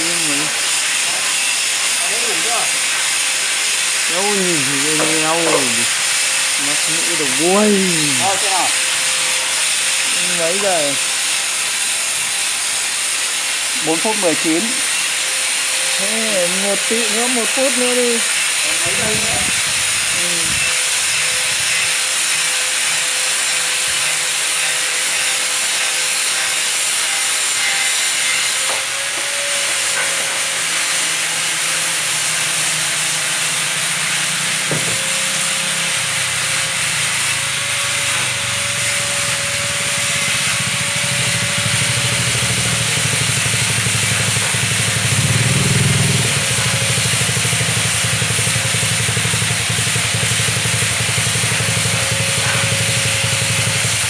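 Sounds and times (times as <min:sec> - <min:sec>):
stone-cutting machine hissing: 0:00.0 - 0:54.0.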